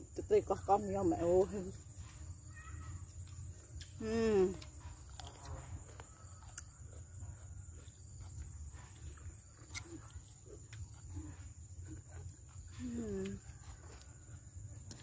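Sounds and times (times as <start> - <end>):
chewing: 1.3 - 15.0.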